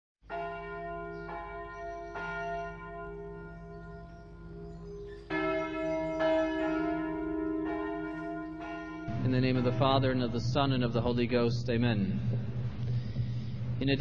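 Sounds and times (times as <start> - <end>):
church bells ringing: 0.2 - 14.0
lower-pitched bell: 0.4 - 13.4.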